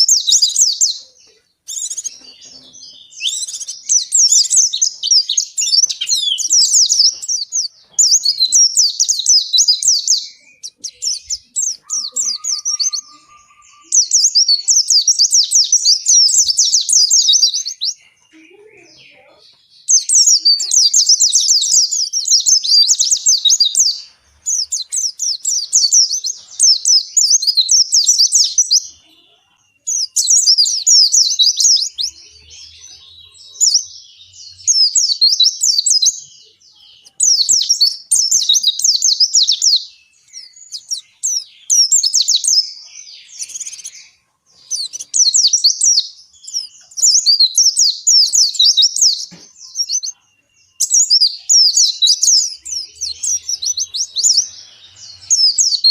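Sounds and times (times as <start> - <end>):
bird twittering song: 0.0 - 55.9.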